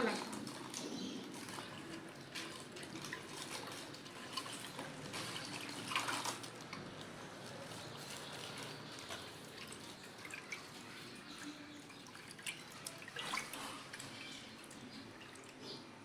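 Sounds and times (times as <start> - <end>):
water sloshing in a bowl: 0.0 - 16.0
water splashes: 0.0 - 16.0.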